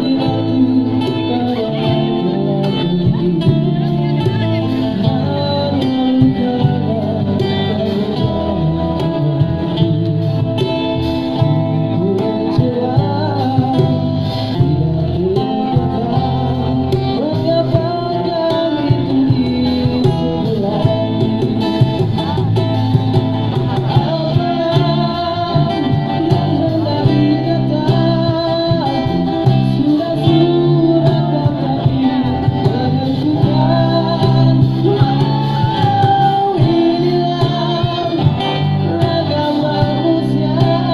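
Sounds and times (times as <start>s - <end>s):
acoustic guitar accompaniment: 0.0s - 40.9s
person singing: 0.0s - 40.9s.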